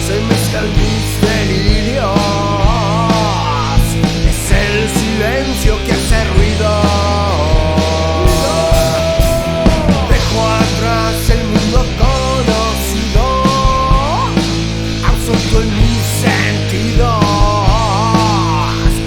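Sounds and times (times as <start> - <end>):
rock band playing instrumental: 0.0 - 19.0.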